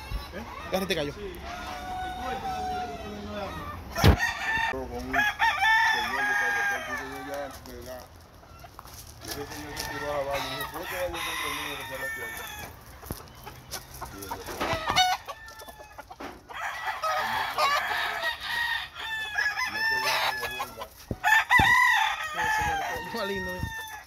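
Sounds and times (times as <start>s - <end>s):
chickens clucking: 0.0s - 4.7s, 6.3s - 24.0s
roosters crowing: 0.0s - 24.0s.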